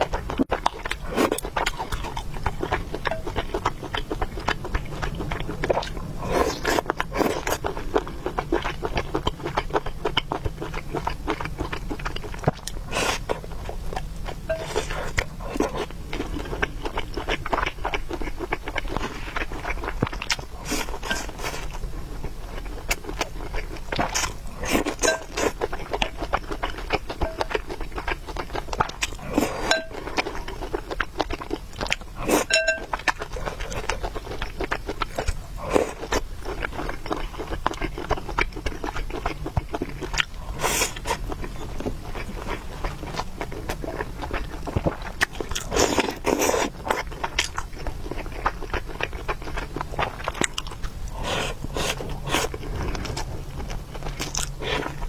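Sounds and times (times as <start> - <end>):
faint low hum: 0.0 - 55.0
person chewing noodles: 0.0 - 55.0.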